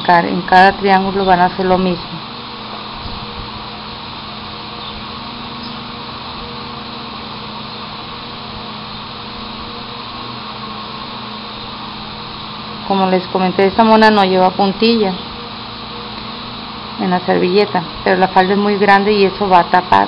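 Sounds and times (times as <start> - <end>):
mechanical whir with low hum: 0.0 - 20.0.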